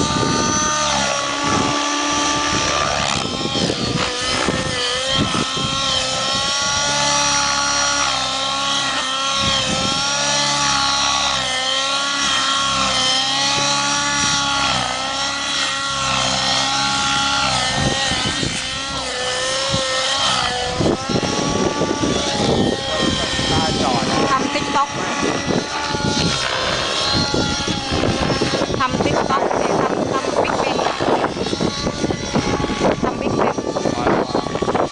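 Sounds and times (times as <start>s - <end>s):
rc helicopter engine whine: 0.0s - 34.9s
rotor drone: 0.0s - 34.9s.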